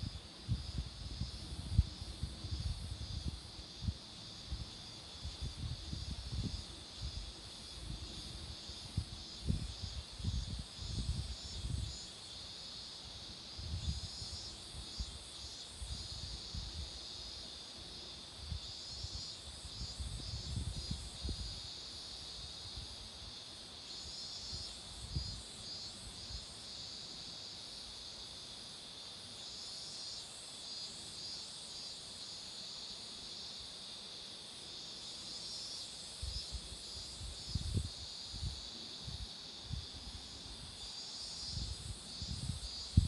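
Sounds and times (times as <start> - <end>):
cicadas buzzing: 0.0 - 43.0.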